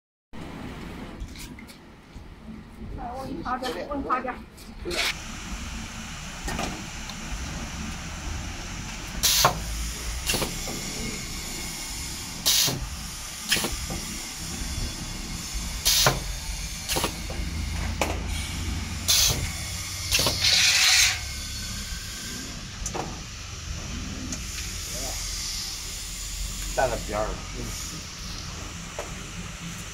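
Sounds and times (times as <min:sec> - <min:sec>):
steady low hum: 0:00.4 - 0:29.9
air cylinder hissing blasts: 0:05.1 - 0:29.9.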